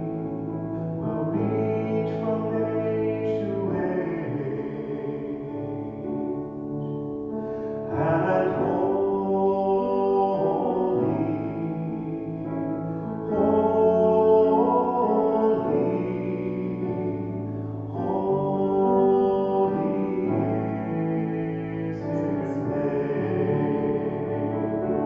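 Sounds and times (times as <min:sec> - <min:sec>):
church singing: 0:00.0 - 0:25.0
grand piano accompaniment: 0:00.0 - 0:25.0.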